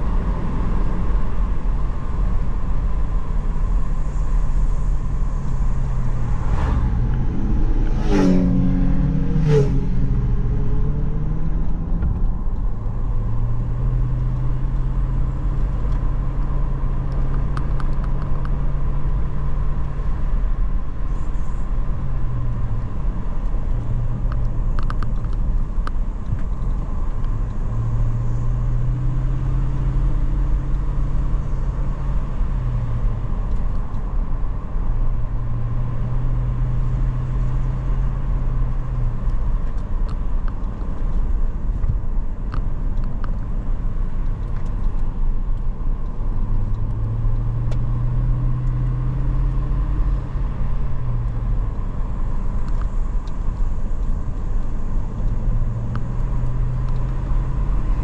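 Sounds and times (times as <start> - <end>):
car engine: 0.0 - 58.0
road rumble: 0.0 - 58.0.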